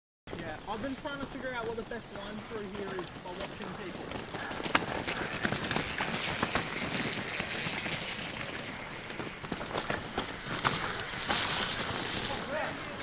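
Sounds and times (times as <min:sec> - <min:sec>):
rain hiss with ticks: 0:00.3 - 0:13.0.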